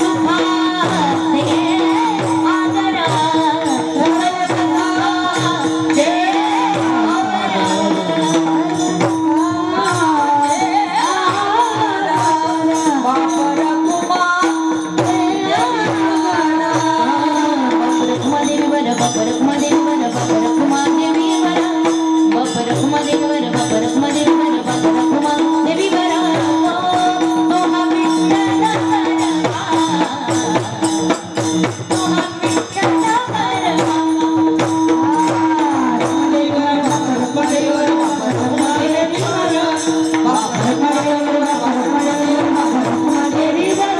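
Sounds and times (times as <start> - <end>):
fast percussion: 0.0 - 43.9.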